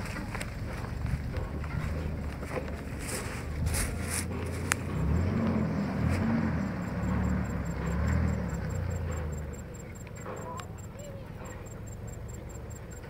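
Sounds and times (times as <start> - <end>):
off-road vehicle engine at low revs: 0.0 - 13.0.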